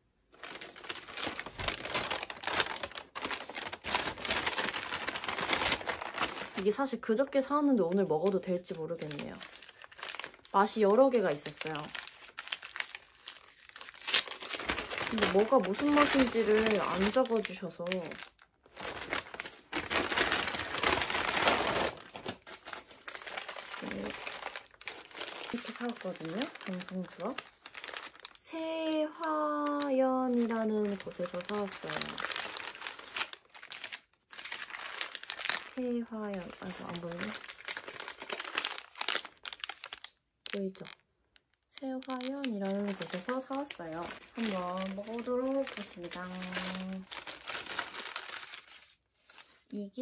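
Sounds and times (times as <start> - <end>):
paper bag crinkling: 0.3 - 6.8, 8.3 - 28.4, 29.3 - 41.0, 42.0 - 49.6.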